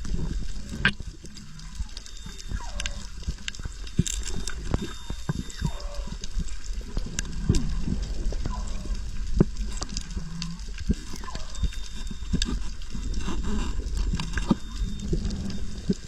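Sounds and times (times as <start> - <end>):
low gurgles: 0.0 - 16.0
low underwater rumble: 0.0 - 16.0
underwater clicks and knocks: 0.0 - 16.0.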